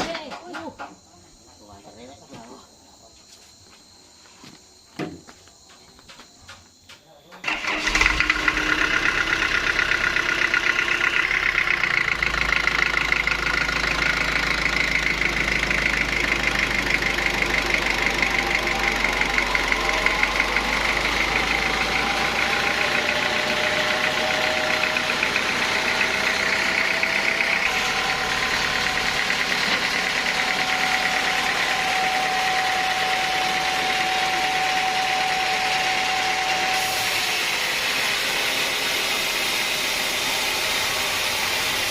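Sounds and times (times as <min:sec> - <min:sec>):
sawmill engine running: 0:07.4 - 0:41.9.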